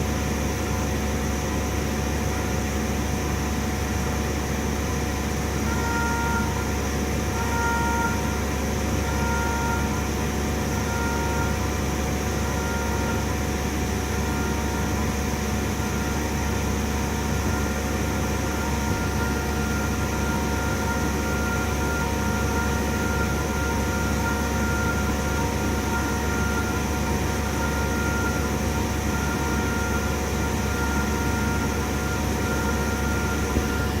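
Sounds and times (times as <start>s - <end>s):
milling machine humming: 0.0s - 34.0s.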